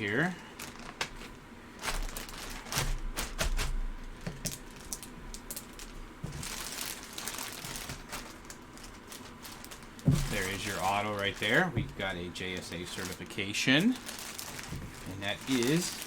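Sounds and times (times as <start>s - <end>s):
jersey crinkling and rustling: 0.0s - 16.0s.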